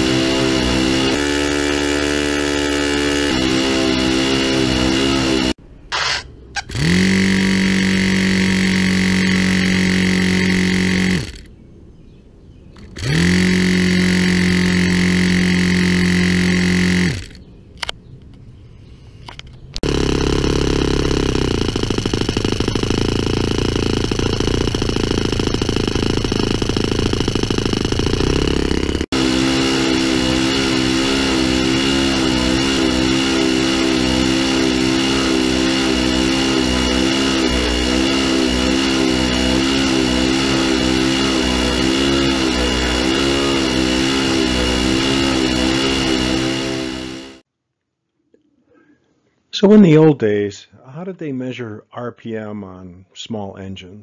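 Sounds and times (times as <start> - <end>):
electric starter whining: 0.0 - 11.5, 12.8 - 17.9, 19.8 - 47.4
model engine running: 0.0 - 11.5, 12.8 - 17.4, 19.8 - 47.4.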